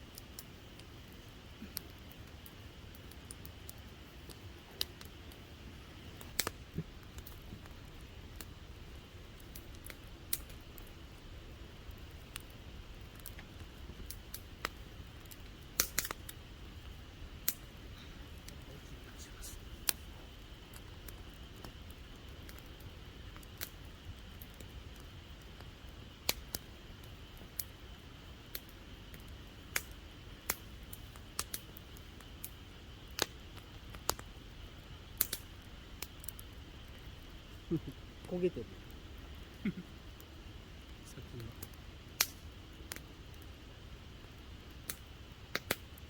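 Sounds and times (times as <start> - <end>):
campfire crackling and popping: 0.0 - 46.0
low steady rumble: 0.0 - 46.0.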